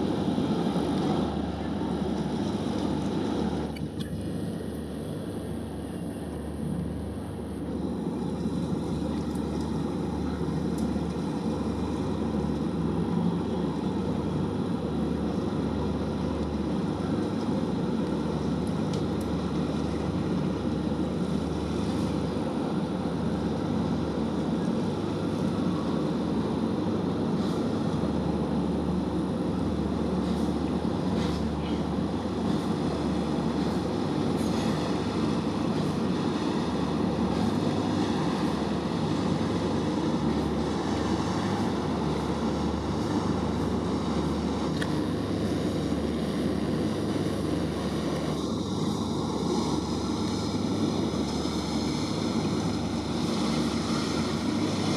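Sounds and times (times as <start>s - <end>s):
ship engine rumbling: 0.0s - 54.9s.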